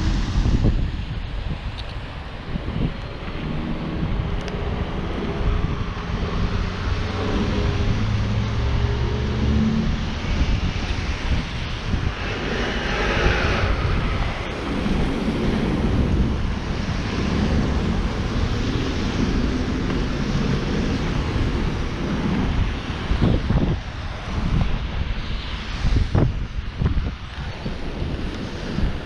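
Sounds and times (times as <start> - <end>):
vehicles passing: 0.0 - 29.0
wind buffeting microphone: 0.0 - 29.0.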